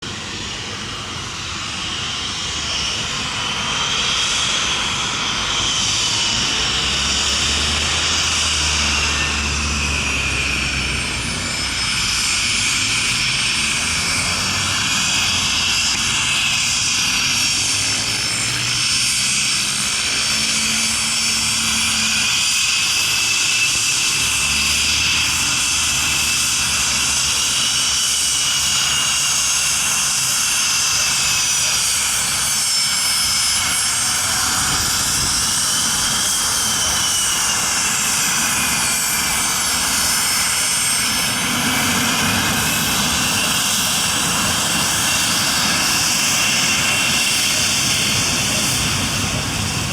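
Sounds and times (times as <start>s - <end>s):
jet engines whining and roaring: 0.0s - 49.9s.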